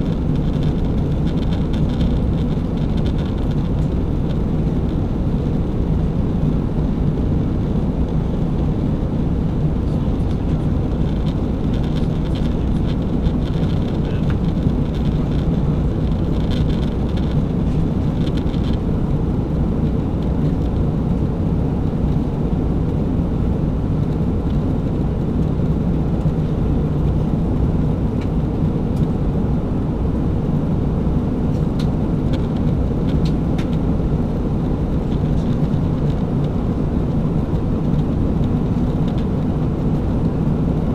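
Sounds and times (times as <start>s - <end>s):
aircraft cabin engine roar: 0.0s - 40.9s.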